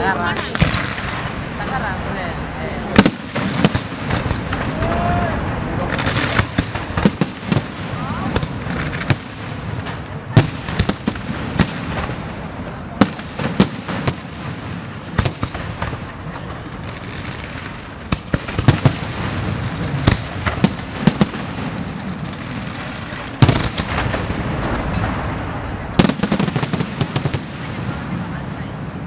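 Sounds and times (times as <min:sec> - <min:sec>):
crackling rumble: 0:00.0 - 0:29.0
fireworks bursting with bangs: 0:00.0 - 0:29.0.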